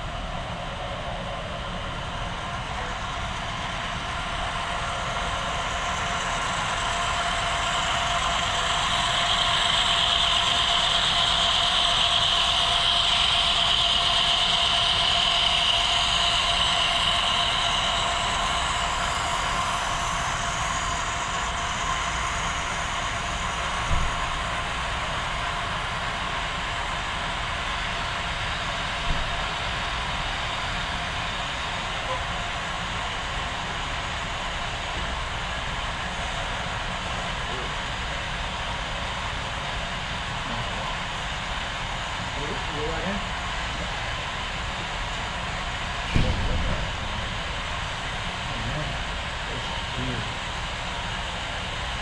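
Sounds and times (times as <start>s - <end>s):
model train rolling and whining: 0.0s - 52.0s.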